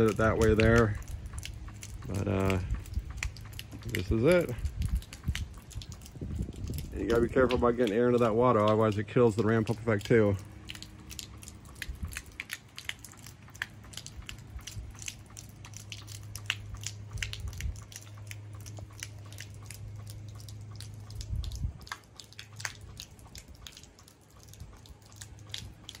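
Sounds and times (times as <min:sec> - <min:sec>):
pump valves clicking: 0:00.0 - 0:26.0
steady low hum: 0:00.0 - 0:26.0.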